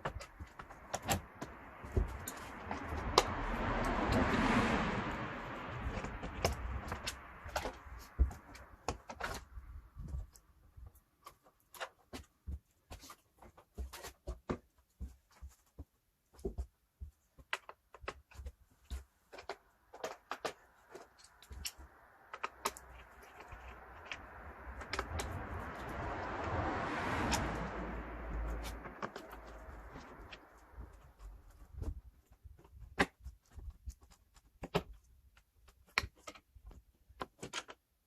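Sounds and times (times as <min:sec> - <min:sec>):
hand tools and plastic parts clicking: 0:00.0 - 0:04.3, 0:05.4 - 0:38.0.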